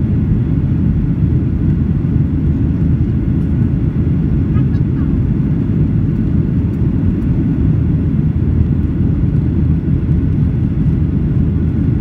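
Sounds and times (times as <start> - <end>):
jet engines at climb power: 0.0 - 12.0.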